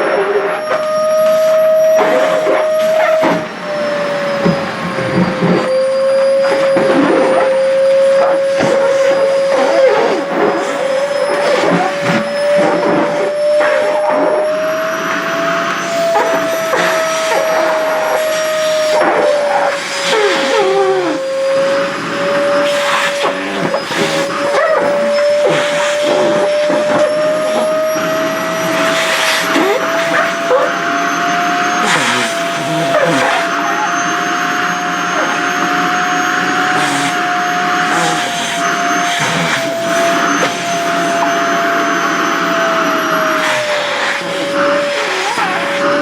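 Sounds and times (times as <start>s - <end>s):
nozzle squeals sucking fabric: 0.0s - 46.0s
vacuum cleaner motor whine: 0.0s - 46.0s.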